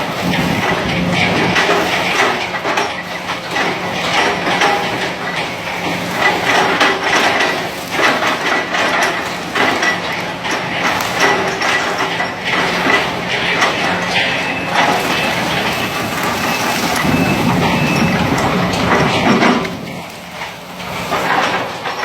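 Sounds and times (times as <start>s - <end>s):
digging knocks and crunching: 0.0s - 22.0s
excavator diesel engine running: 0.0s - 22.0s.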